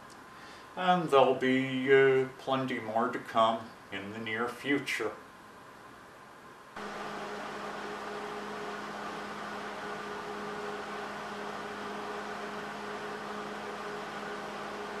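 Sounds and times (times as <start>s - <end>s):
steady hum with hiss: 0.0s - 15.0s.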